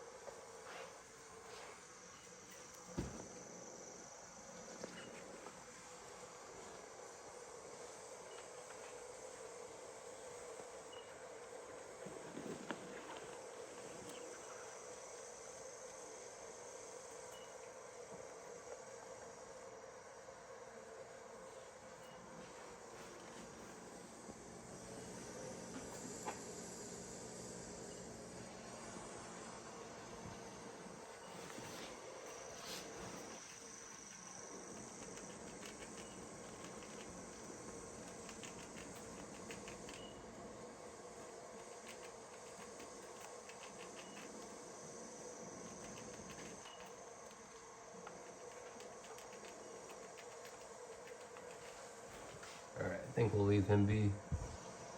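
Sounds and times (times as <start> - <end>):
faint background hum: 0.0 - 54.9.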